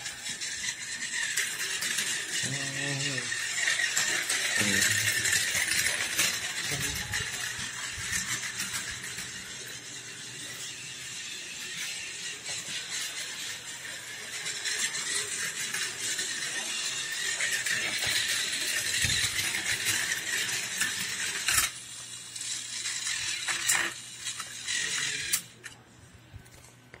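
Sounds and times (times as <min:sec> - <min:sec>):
toy cars rattling on track: 0:00.0 - 0:25.8
toy train motor whine: 0:00.0 - 0:25.8.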